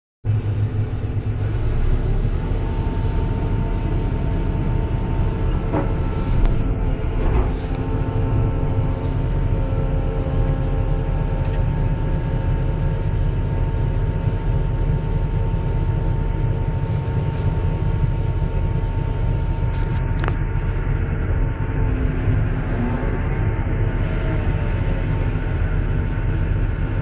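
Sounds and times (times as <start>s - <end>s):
diesel engine running: 0.3s - 27.0s.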